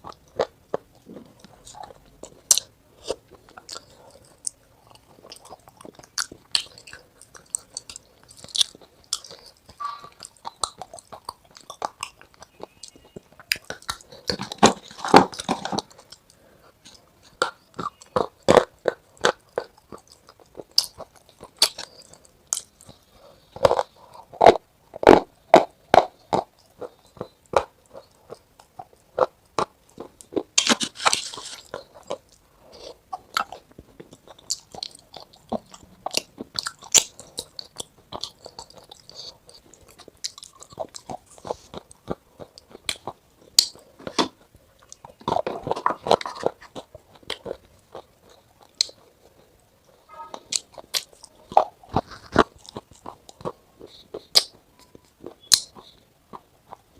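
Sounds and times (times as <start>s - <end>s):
crunching and chewing: 0.0s - 56.9s.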